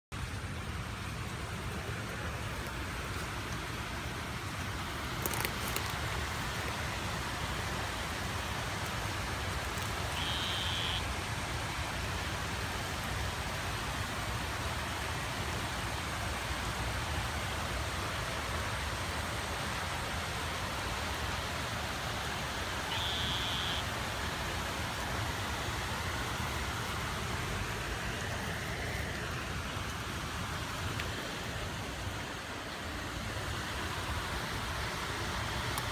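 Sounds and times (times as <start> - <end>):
rain falling on wet ground: 0.1 - 35.9
running creek water: 0.1 - 35.9.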